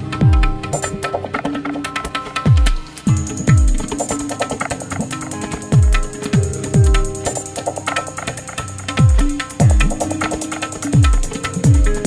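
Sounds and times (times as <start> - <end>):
sharp percussion clicks: 0.4 - 12.0.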